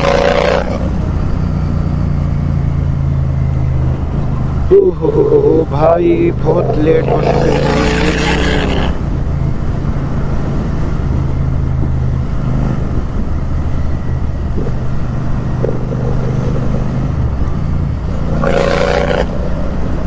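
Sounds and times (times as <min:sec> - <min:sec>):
motorcycle exhaust running: 0:00.0 - 0:20.0.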